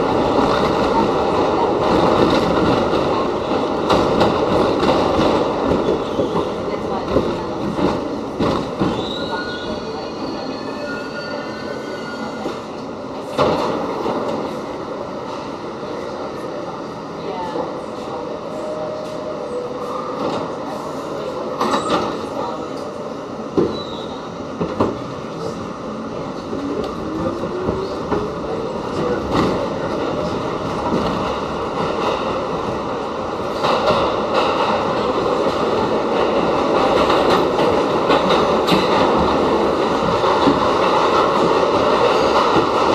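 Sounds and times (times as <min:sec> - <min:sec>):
subway wheels rumbling on rail: 0:00.0 - 0:42.9.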